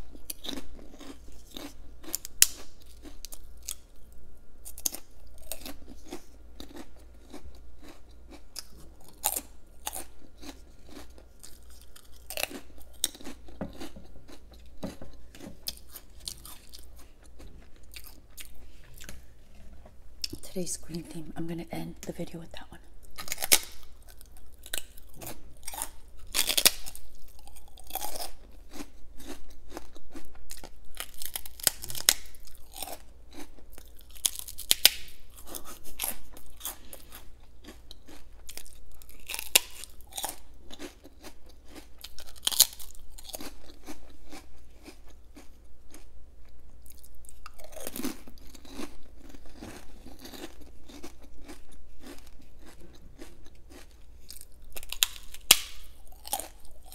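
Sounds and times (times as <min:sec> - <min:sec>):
crunching crisp crackers: 0:00.0 - 0:19.3, 0:23.0 - 0:56.9.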